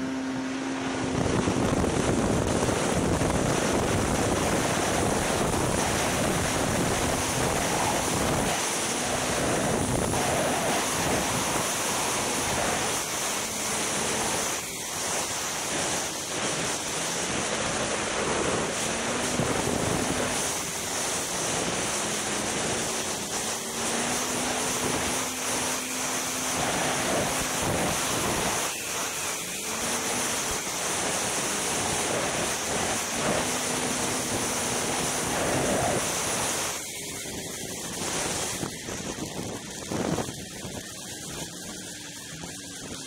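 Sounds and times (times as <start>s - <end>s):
snowmobile engine at speed: 0.0s - 43.0s
wind rush on microphone: 0.0s - 43.0s.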